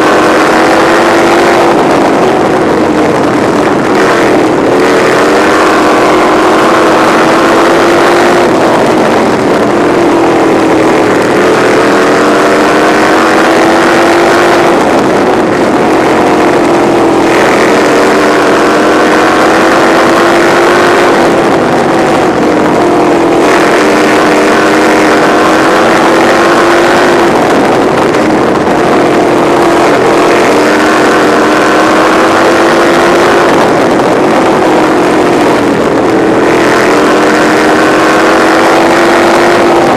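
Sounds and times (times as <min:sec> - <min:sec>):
racing car engine: 0:00.0 - 0:39.9
rush of noise: 0:00.0 - 0:39.9.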